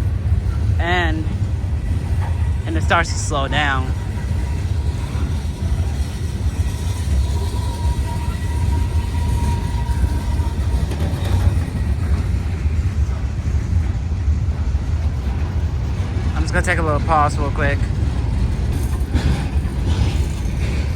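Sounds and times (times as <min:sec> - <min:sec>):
train cars rolling: 0:00.0 - 0:20.9.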